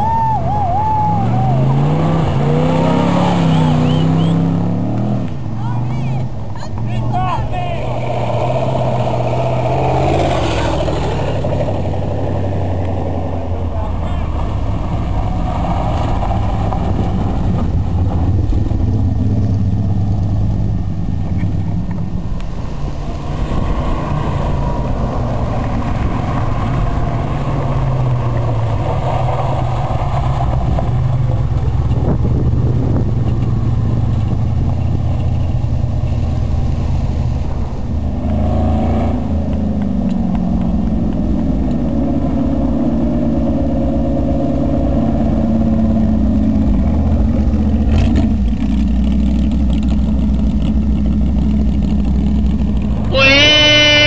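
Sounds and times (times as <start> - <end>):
higher-pitched engine: 0.0 - 54.0
racing car engines revving: 0.0 - 54.0.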